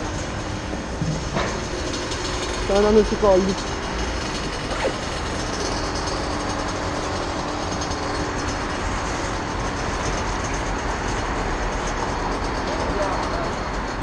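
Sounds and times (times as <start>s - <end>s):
two-stroke motorcycle engine idling: 1.6s - 14.0s.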